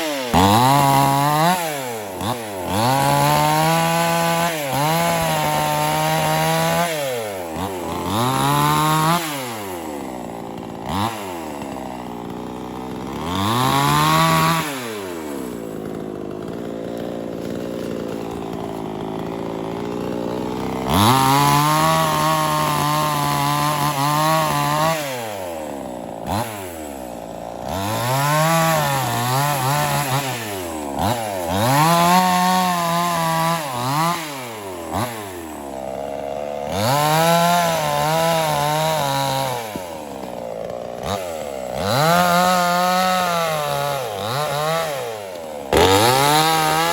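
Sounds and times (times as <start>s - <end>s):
chainsaw engine revving: 0.0s - 46.9s.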